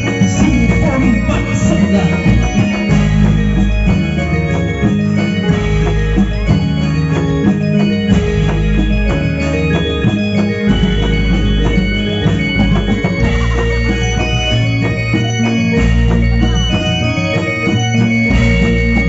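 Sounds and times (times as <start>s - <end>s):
drums in quick rhythm: 0.0s - 19.0s
organ-like melodic tones: 0.0s - 19.0s.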